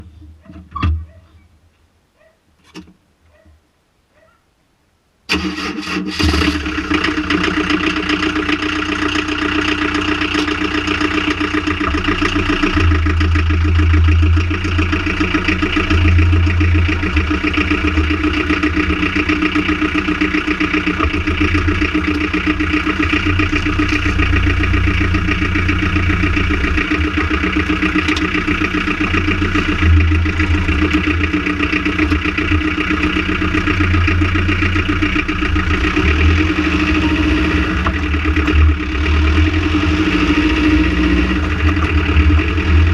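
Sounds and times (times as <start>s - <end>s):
van engine idling: 5.3s - 42.9s.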